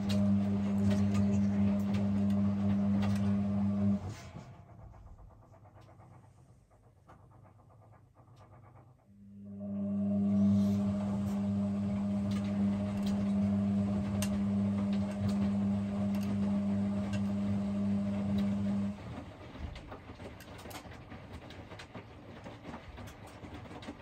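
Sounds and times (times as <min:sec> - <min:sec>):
washer drum motor humming: 0:00.0 - 0:24.0.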